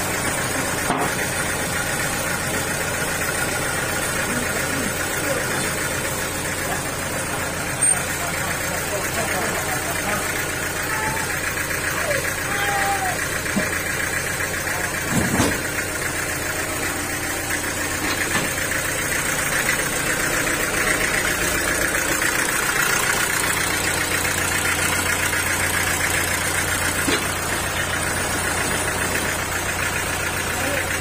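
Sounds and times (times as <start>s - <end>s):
sawmill engine humming: 0.0s - 31.0s.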